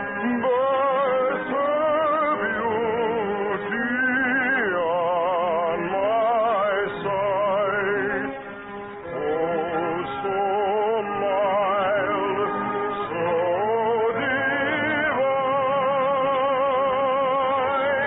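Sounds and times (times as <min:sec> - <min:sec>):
operatic singing: 0:00.0 - 0:08.4, 0:09.0 - 0:18.0.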